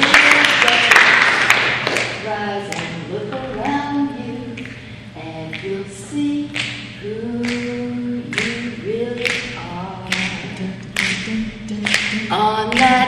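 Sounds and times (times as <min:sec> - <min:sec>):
woman singing a cappella: 0:00.0 - 0:01.3, 0:02.0 - 0:13.0.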